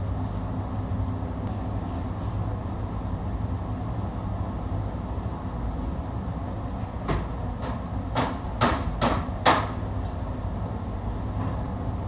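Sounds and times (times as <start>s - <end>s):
extraction fan humming: 0.0s - 12.0s.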